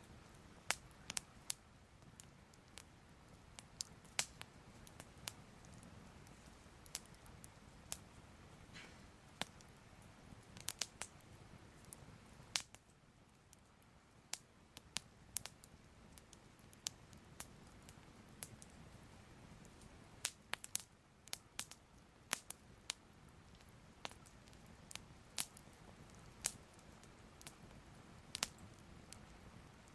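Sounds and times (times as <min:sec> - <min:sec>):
faint steady hiss: 0:00.0 - 0:29.9
fire crackling and popping: 0:00.0 - 0:29.9.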